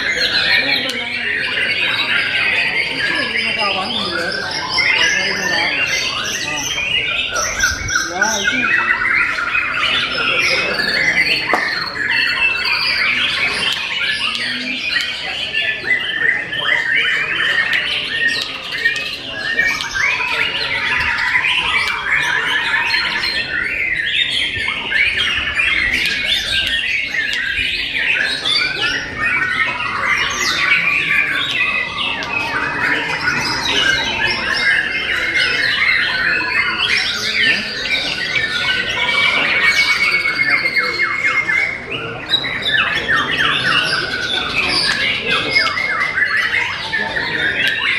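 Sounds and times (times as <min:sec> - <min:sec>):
birds singing whistles and trills: 0:00.0 - 0:47.9.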